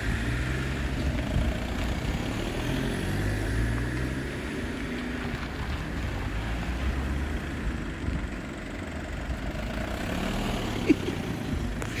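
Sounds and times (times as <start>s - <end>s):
car engines running: 0.0s - 12.0s
road noise: 0.0s - 12.0s.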